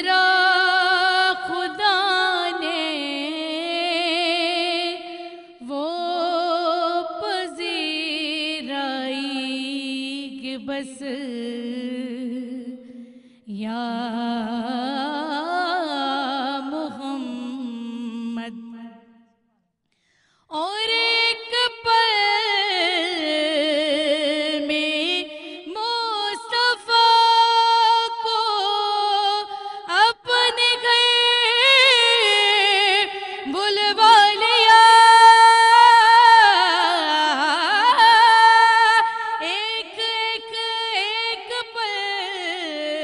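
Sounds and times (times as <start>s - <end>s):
woman singing into a microphone: 0.0s - 19.2s, 20.5s - 43.0s.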